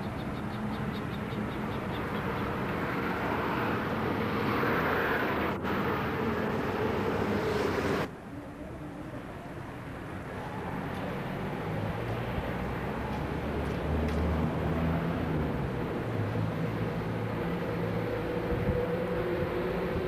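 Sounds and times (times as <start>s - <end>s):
rushing outdoor background noise: 0.0s - 20.0s.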